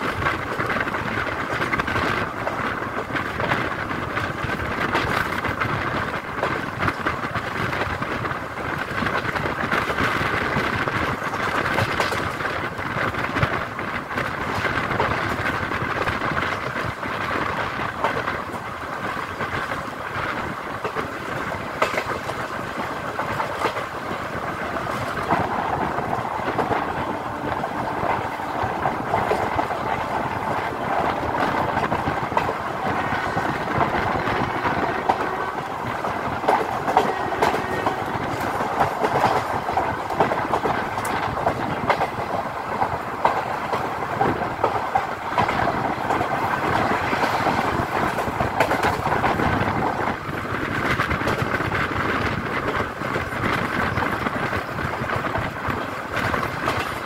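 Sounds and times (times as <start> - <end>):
train wheels rumbling: 0.0 - 57.0
wheels clicking over rail joints: 0.0 - 57.0.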